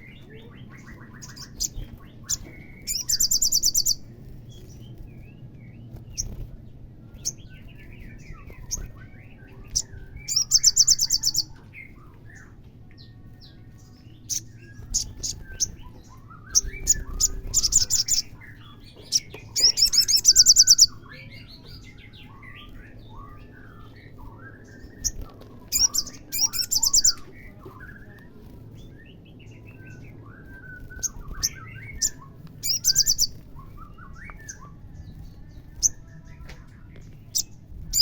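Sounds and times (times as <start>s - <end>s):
soft bird chirping: 0.0s - 38.0s.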